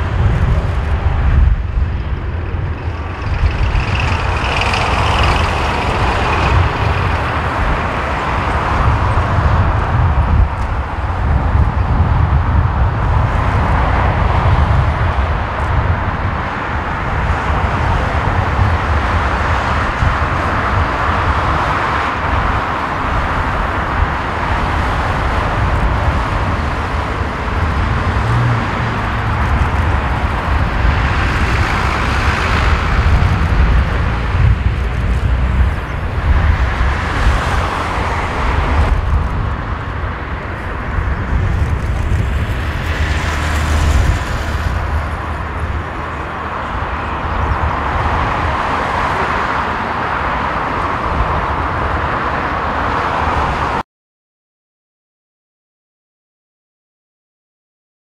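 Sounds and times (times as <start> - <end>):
jet engine roar: 0.0 - 53.8.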